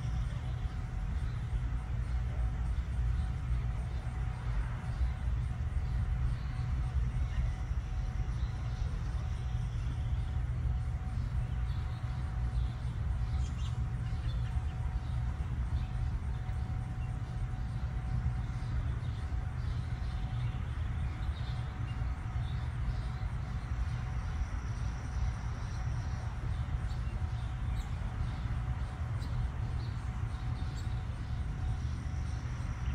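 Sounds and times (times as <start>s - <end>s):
faint hum: 0.0s - 32.9s
low outdoor rumble: 0.0s - 32.9s.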